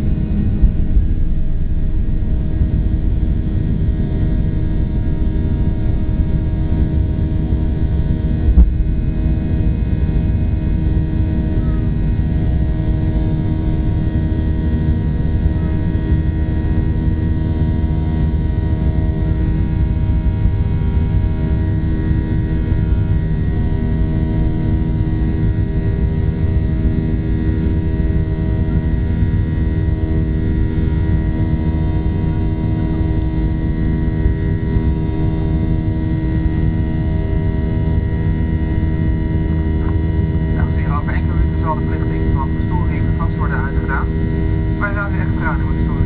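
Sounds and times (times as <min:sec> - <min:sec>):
jet engines rumbling in cabin: 0:00.0 - 0:46.0
steady engine tones: 0:00.0 - 0:46.0.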